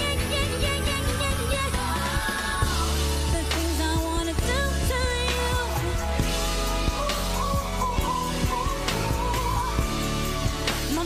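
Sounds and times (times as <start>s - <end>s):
bass: 0.0s - 11.0s
drums: 0.0s - 11.0s
woman singing lead: 0.0s - 11.0s.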